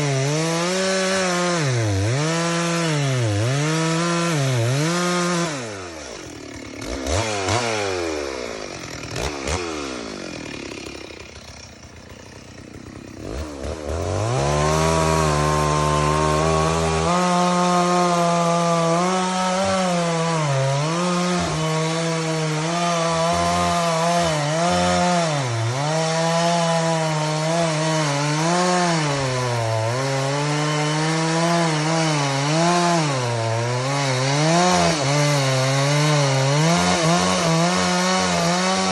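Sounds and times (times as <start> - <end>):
chainsaw cutting wood: 0.0 - 38.9
chainsaw revving: 0.0 - 38.9.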